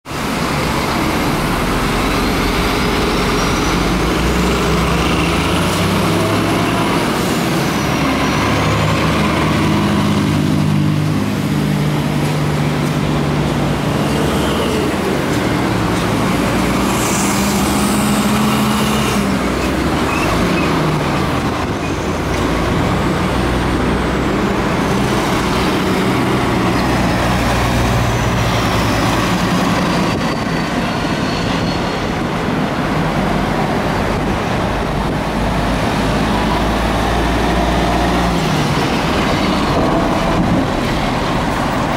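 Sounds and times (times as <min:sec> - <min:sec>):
trucks and cars passing: 0:00.1 - 0:41.9.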